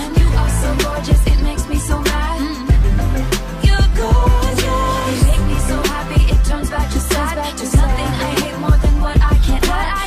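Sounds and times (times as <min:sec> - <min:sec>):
pop r and b music with heavy bass: 0:00.0 - 0:10.0.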